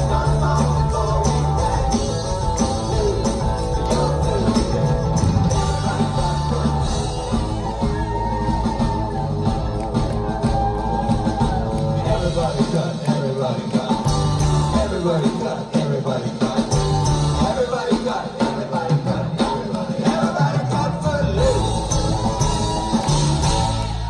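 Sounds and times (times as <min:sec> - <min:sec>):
live rock band playing: 0:00.0 - 0:24.0
person singing: 0:00.0 - 0:24.0.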